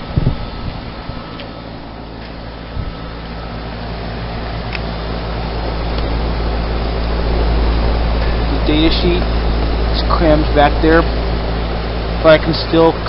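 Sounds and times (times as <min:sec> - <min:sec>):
heat pump compressor hum: 0:00.0 - 0:13.0
outdoor fan: 0:00.0 - 0:13.0.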